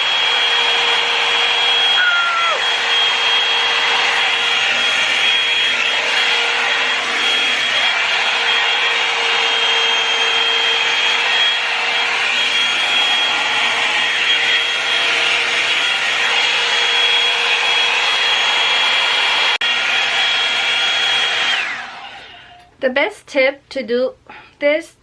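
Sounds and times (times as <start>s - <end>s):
hair dryer blowing air: 0.0s - 22.7s.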